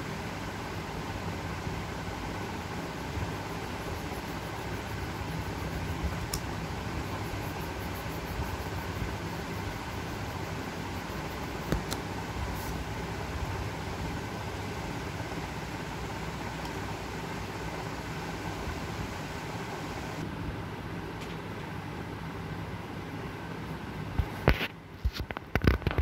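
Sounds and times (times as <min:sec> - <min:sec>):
mechanical hum and hiss: 0:00.0 - 0:26.0.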